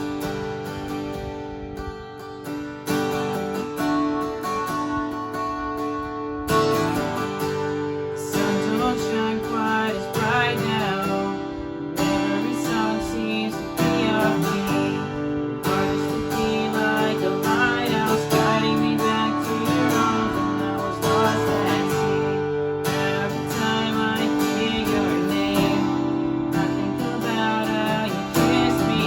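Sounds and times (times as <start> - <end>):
acoustic guitar strumming: 0.0 - 29.0
bending guitar melody: 0.0 - 29.0.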